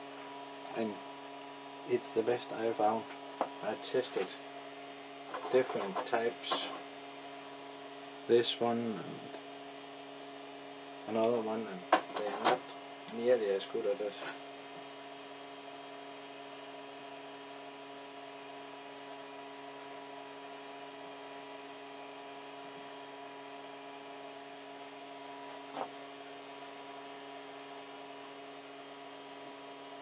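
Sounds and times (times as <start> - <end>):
printer electrical hum with whine: 0.0 - 30.0.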